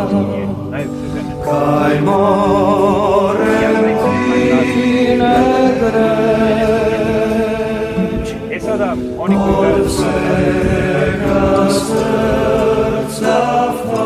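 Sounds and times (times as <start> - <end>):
voices singing long wavering notes: 0.0 - 14.0.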